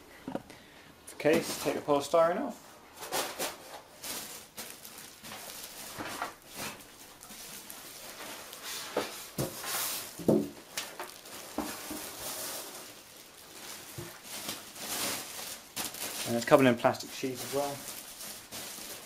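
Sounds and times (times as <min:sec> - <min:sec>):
packing rustling: 0:03.0 - 0:19.0
polystyrene foam squeaking: 0:03.0 - 0:19.0.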